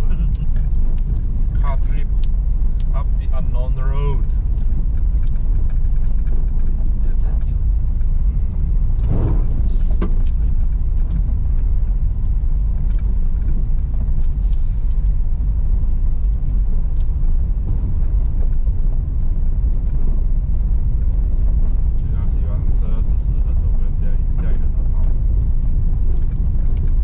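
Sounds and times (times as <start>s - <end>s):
car driving on rocky dirt road: 0.0s - 27.0s.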